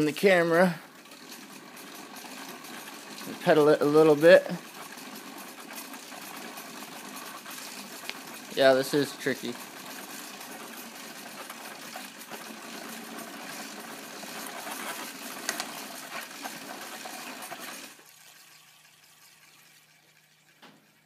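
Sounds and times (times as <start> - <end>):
exercise bike wheel whirring: 0.0 - 21.0.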